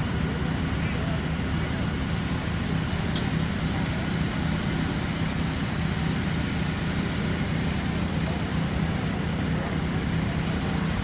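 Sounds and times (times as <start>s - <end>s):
fire truck engine running: 0.0s - 11.0s.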